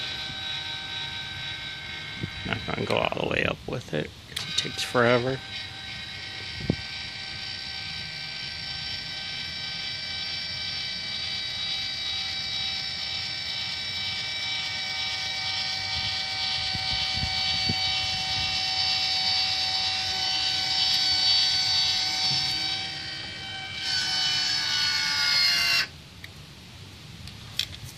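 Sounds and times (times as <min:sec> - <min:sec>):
electric actuator motor whining: 0:00.0 - 0:25.9.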